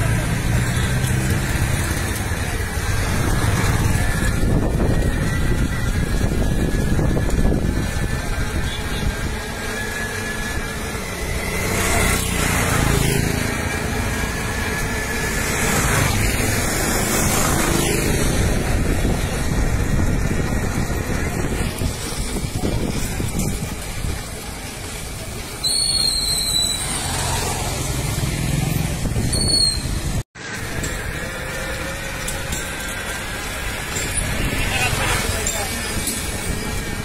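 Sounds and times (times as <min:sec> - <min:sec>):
passing vehicles hissing: 0:00.0 - 0:37.0
traffic low rumble: 0:00.0 - 0:37.0.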